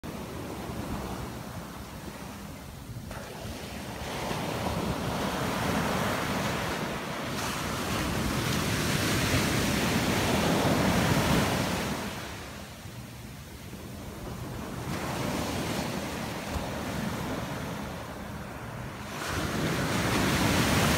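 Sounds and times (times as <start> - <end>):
ocean surf breaking on beach: 0.1 - 12.9, 13.6 - 20.9.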